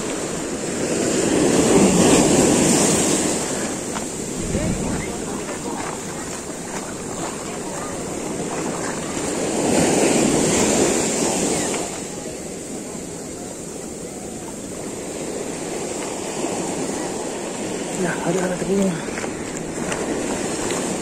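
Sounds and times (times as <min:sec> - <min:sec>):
ocean surf breaking on shore: 0:00.0 - 0:21.0.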